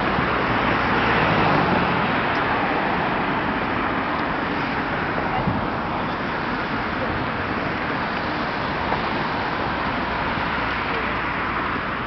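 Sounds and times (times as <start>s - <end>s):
cars passing close by: 0.0s - 12.0s.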